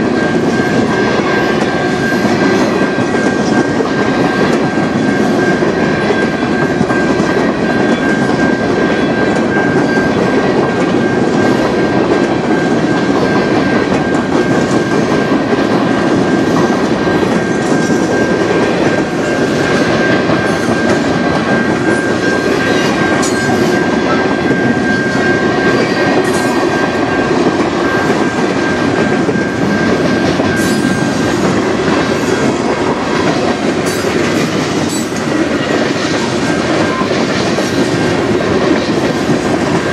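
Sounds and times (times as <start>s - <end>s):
steady high-pitched tone: 0.0s - 39.9s
train wheels clattering over rails: 0.0s - 39.9s.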